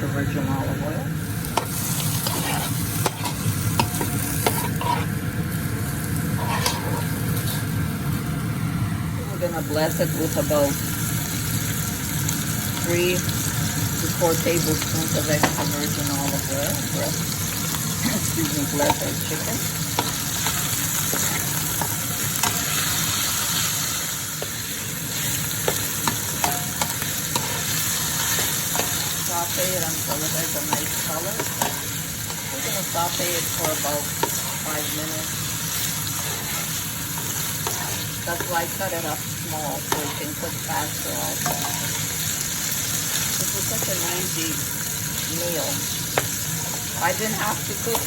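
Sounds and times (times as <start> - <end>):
chicken sizzling in a frying pan: 0.0 - 48.0.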